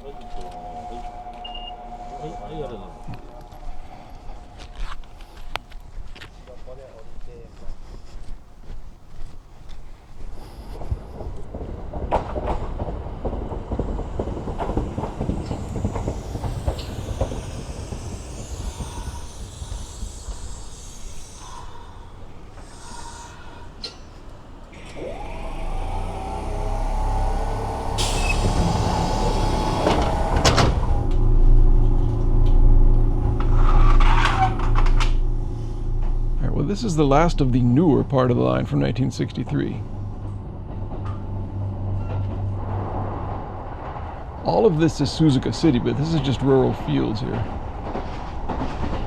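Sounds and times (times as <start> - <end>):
electric train motors whining: 0.0 - 49.0.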